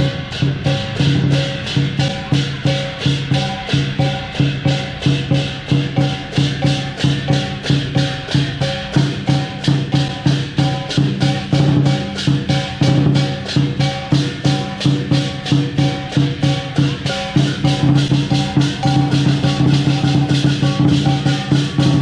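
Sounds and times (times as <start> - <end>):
big drum beating: 0.0 - 22.0
cymbals clashing: 0.0 - 22.0
gong: 0.0 - 22.0.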